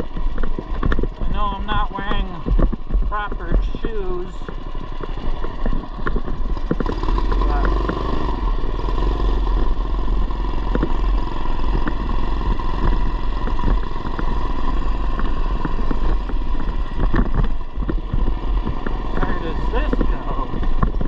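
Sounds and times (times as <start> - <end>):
bike rattling over rough ground: 0.0 - 21.0
mini bike engine running: 0.0 - 21.0.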